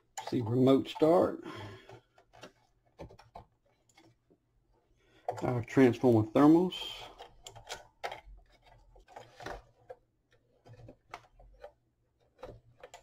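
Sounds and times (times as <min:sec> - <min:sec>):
wires clicking and rattling: 0:00.0 - 0:13.0.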